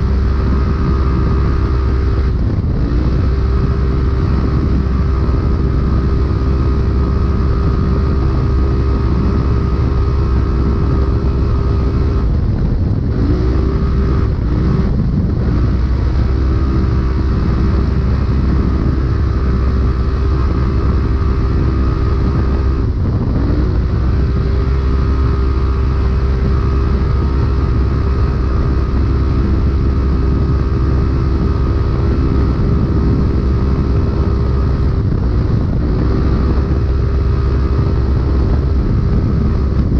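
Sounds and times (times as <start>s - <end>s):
engine running at high revs: 0.0s - 39.9s
rushing noise: 0.0s - 39.9s.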